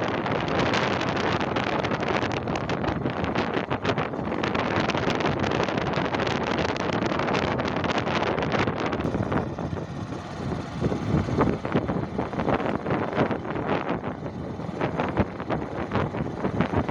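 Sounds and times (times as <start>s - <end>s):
vehicle and road noise: 0.0s - 6.9s, 9.0s - 16.9s
wind buffeting microphone: 0.0s - 16.9s.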